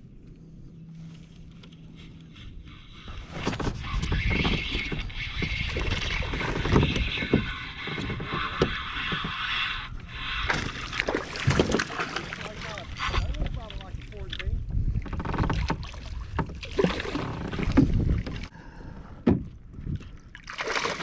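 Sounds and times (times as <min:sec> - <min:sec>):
water rushing around kayak: 0:02.0 - 0:21.0.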